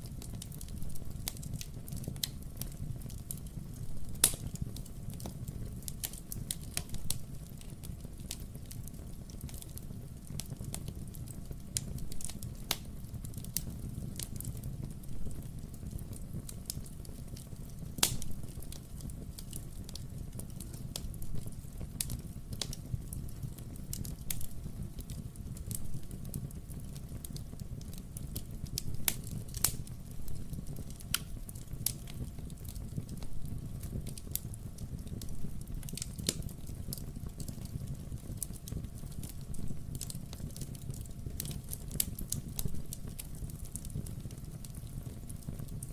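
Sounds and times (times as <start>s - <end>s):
low fire rumble: 0.0s - 45.9s
wood fire crackling and popping: 0.0s - 45.9s.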